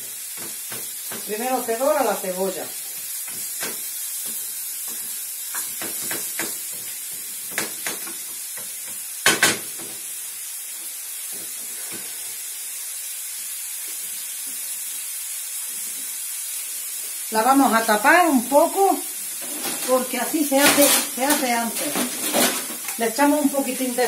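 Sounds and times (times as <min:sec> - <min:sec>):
onion sizzling in oil: 0:00.0 - 0:24.0.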